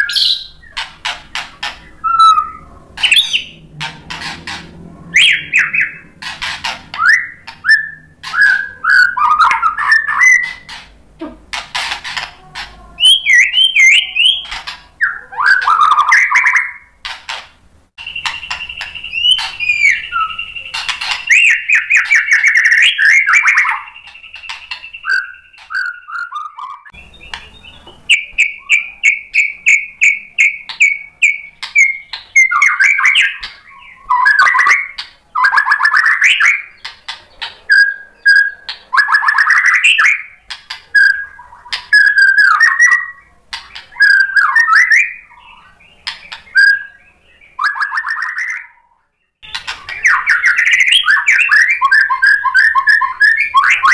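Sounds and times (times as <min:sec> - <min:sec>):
songbird singing: 0:00.0 - 0:17.4, 0:18.0 - 0:53.9.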